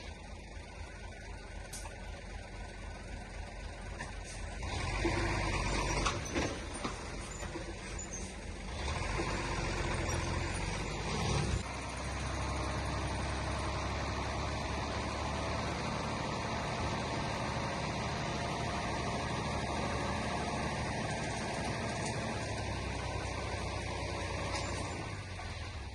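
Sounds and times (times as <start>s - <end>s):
diesel machinery engine rumble: 0.0s - 25.9s.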